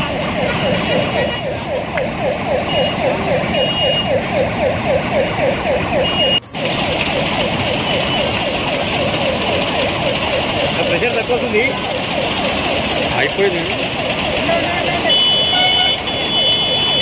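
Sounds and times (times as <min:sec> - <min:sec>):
siren yelping: 0:00.0 - 0:17.0.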